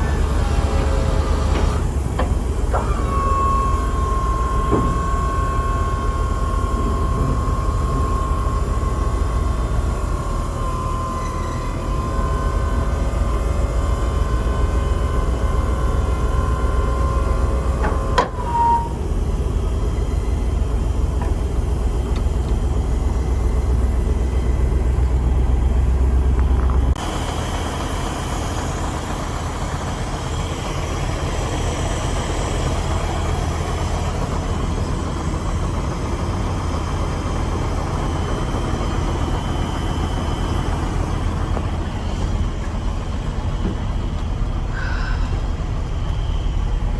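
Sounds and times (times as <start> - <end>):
steady high whine: 0.0 - 46.9
truck engine idling: 0.0 - 46.9.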